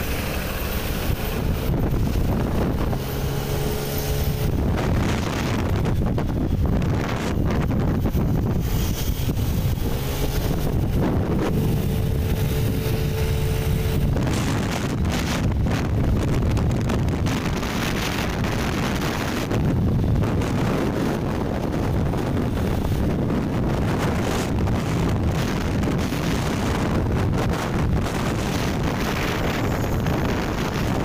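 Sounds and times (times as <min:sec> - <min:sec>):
road and engine rumble: 0:00.0 - 0:31.0
wind buffeting microphone: 0:00.0 - 0:31.0.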